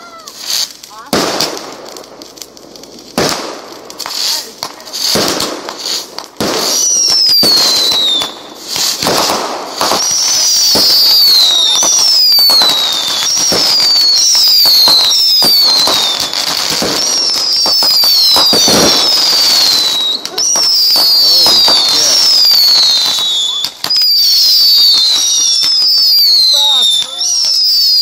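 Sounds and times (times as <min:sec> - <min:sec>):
fireworks whistles falling in pitch: 0:00.0 - 0:01.6, 0:05.0 - 0:28.0
fireworks bangs: 0:00.0 - 0:28.0.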